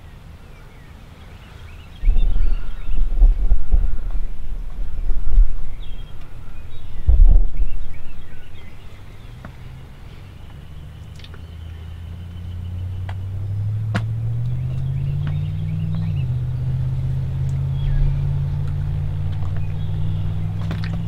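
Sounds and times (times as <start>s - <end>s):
faint bird chirps: 0.0s - 21.0s
motor vehicle engine: 1.4s - 21.0s.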